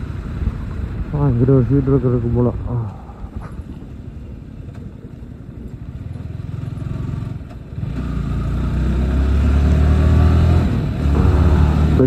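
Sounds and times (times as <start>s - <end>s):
motorcycle engine at low speed: 0.0s - 12.0s.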